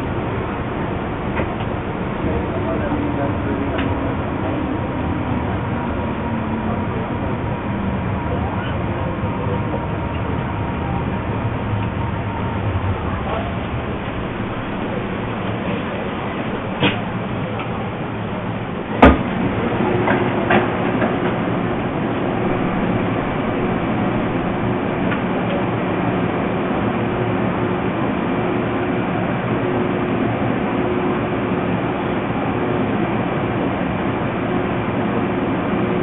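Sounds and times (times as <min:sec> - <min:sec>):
telephone line rumble and hiss: 0:00.0 - 0:36.0.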